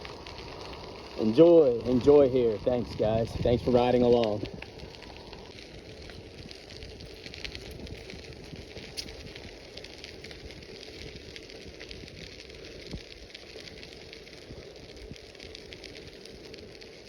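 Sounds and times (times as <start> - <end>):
bicycle tyres rolling on gravel: 0.0 - 17.0.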